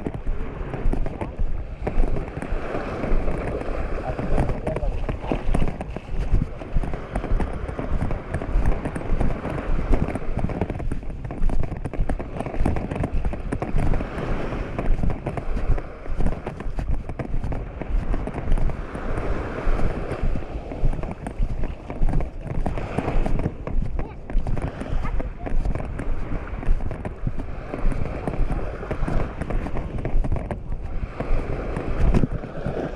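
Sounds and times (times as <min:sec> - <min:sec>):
beach noise: 0:00.0 - 0:32.9
footsteps on wet sand: 0:00.0 - 0:32.9.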